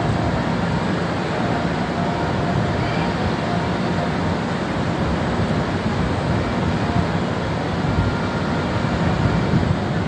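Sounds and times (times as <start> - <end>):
electric train rumbling and humming: 0.0 - 10.0.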